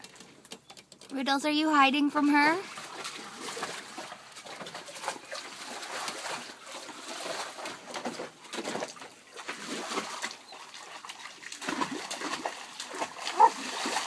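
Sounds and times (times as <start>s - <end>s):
dog splashing water in pool: 2.0s - 14.0s.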